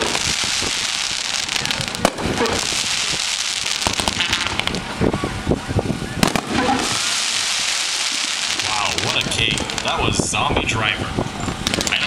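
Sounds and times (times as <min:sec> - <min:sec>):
firework bangs: 0:00.0 - 0:12.0
fireworks crackling: 0:00.0 - 0:12.0.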